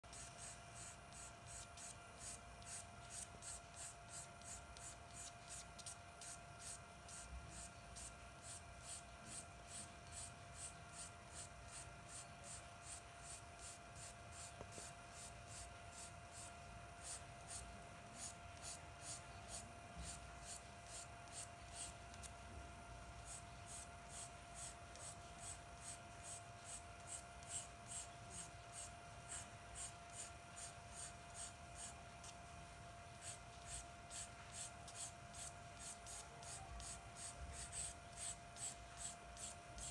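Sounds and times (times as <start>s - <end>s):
faint steady hum: 0.0s - 39.9s
pencil scratching on paper: 0.1s - 17.6s, 18.2s - 21.9s, 23.3s - 32.0s, 33.2s - 39.9s.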